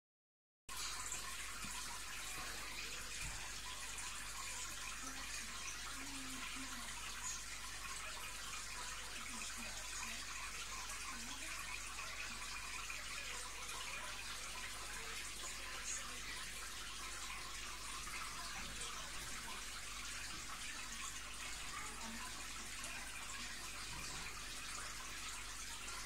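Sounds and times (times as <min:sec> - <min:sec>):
aquarium filter water trickling: 0:00.7 - 0:26.0.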